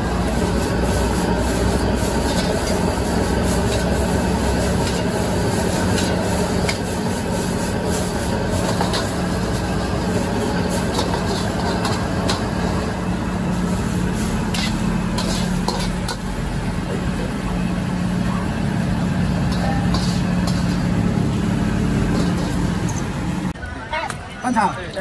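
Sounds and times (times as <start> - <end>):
spatula scraping and clacking on wok: 0.0 - 16.4, 19.2 - 23.1
gas burner rushing: 0.0 - 23.6.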